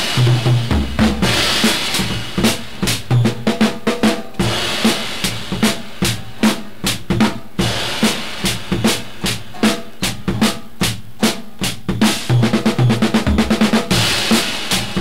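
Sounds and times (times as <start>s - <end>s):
drum kit playing: 0.0s - 15.0s.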